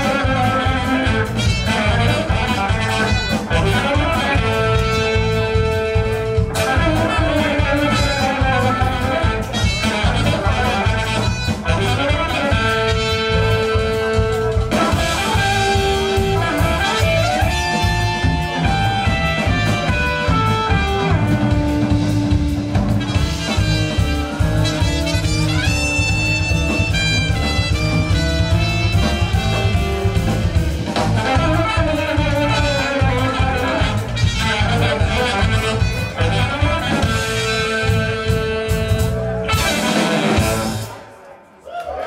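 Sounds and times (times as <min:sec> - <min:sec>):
horn melody of long notes: 0:00.0 - 0:41.2
live jazz-rock band: 0:00.0 - 0:41.4.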